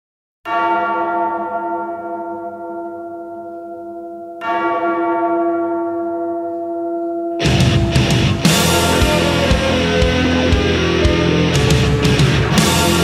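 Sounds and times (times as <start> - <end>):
large bell tolling: 0.5 - 13.0.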